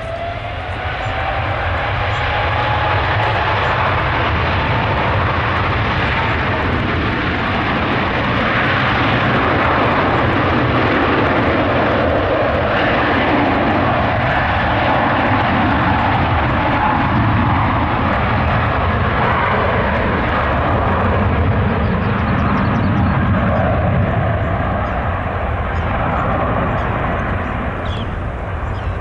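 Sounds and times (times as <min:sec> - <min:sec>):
jet engine roar with whine: 0:00.0 - 0:29.0.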